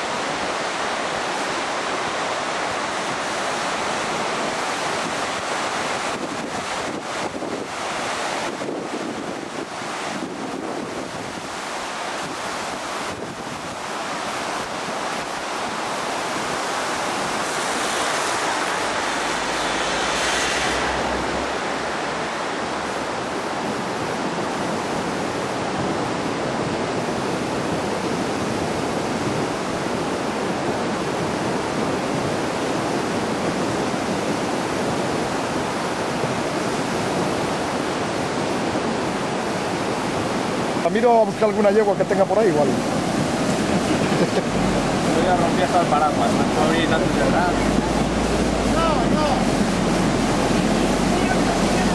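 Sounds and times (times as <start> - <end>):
flood water rushing: 0.0 - 51.9
wind rumbling on microphone: 0.0 - 51.9.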